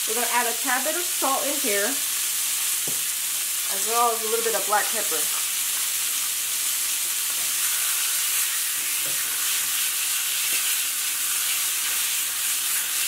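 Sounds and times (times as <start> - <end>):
chicken sizzling in a skillet: 0.0 - 13.0.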